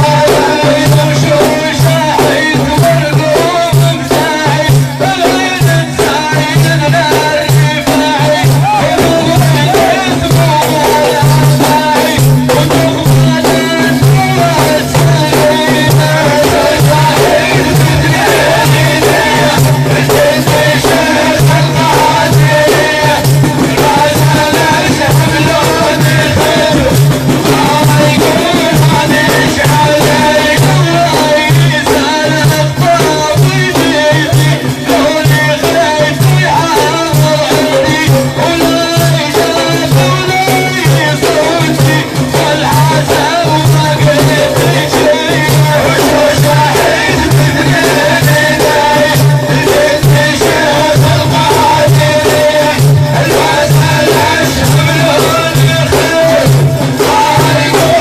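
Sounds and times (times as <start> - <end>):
frame drums with jingles: 0.0 - 58.0
lead voice singing: 0.0 - 58.0
men chanting in rhythm: 0.0 - 58.0.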